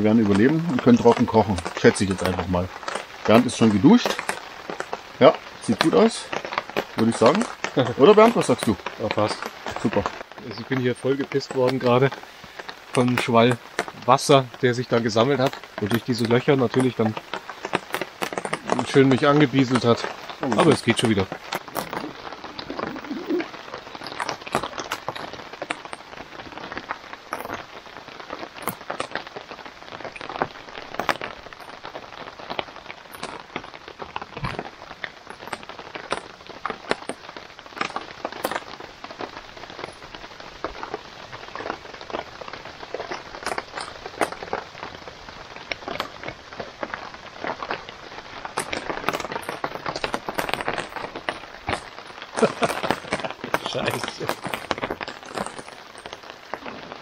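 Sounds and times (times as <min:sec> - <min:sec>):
rain falling on tarps: 0:00.0 - 0:57.0.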